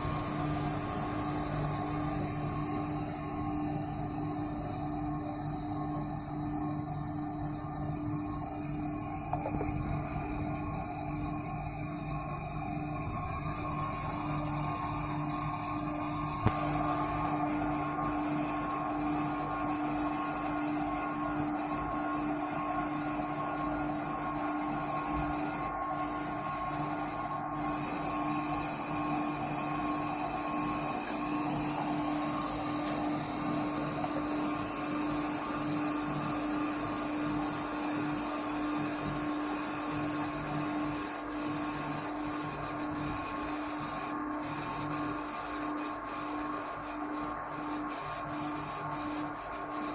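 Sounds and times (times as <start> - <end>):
router spindle motor running: 0.0 - 49.9.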